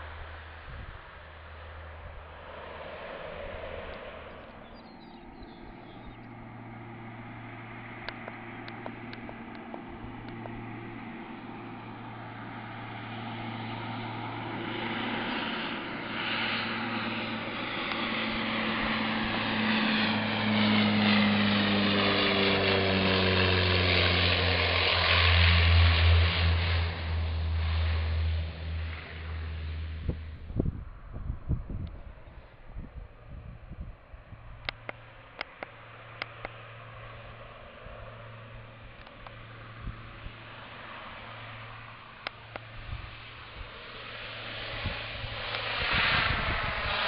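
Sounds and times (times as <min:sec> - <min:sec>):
turboprop airliner engine drone: 0:00.0 - 0:47.0.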